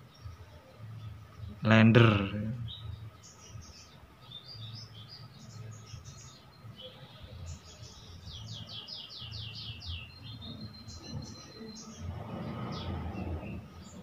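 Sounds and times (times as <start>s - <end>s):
small bird chirping and twittering: 0.0s - 1.6s, 2.6s - 14.0s.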